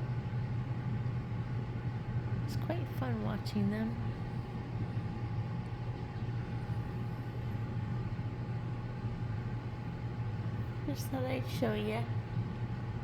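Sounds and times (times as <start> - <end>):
low mechanical hum: 0.0 - 13.0
thin constant whine: 0.0 - 13.0.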